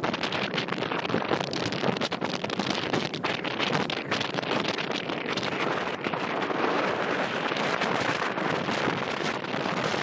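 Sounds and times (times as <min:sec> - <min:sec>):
choppy sea water: 0:00.0 - 0:10.0
wind buffeting microphone: 0:00.0 - 0:10.0.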